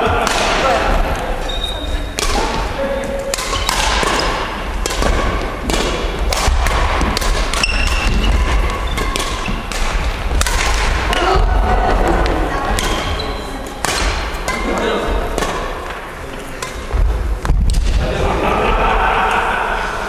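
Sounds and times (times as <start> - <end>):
rackets hitting shuttlecock: 0.0 - 18.0.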